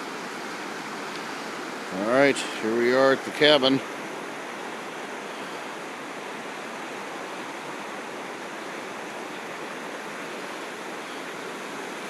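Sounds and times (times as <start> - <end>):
fast water rushing: 0.0 - 12.0.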